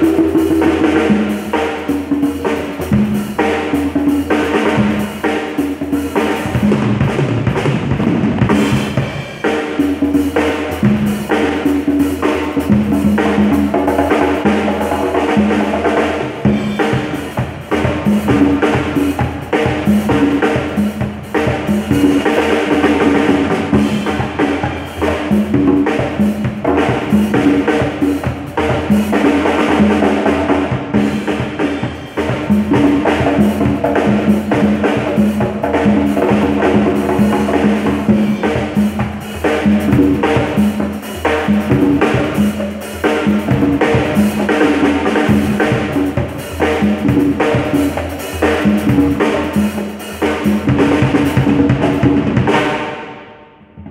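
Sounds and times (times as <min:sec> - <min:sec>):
drum kit kick and snare: 0:00.0 - 0:53.0.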